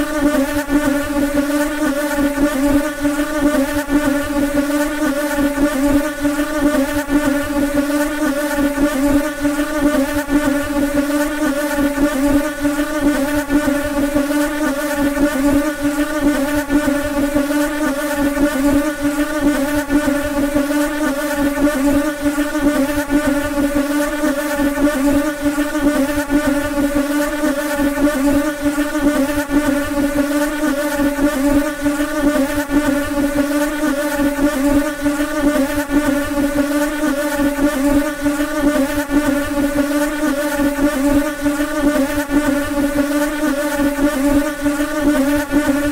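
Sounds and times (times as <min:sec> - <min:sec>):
flies buzzing: 0:00.0 - 0:45.9.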